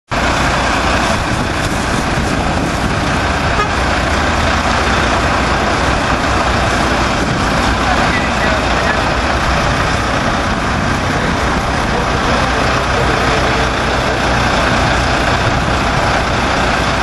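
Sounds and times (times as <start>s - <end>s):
diesel engine idling: 0.1s - 17.0s.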